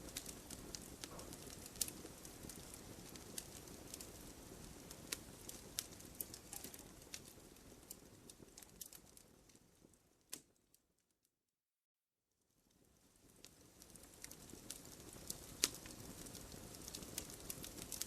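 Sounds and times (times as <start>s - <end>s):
low rumble of flames: 0.0s - 10.4s, 12.6s - 18.0s
firewood crackling and popping: 0.0s - 10.8s, 12.6s - 18.0s.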